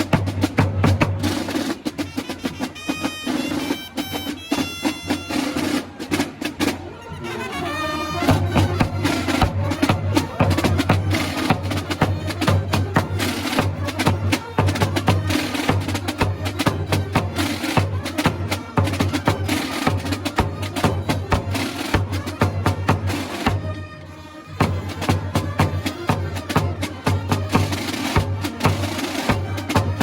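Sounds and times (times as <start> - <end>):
drums beating dense rhythm: 0.0 - 7.2, 8.2 - 30.0.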